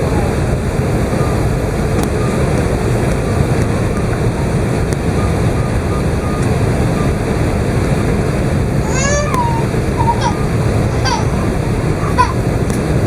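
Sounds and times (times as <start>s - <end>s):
airplane cabin noise: 0.0s - 13.0s.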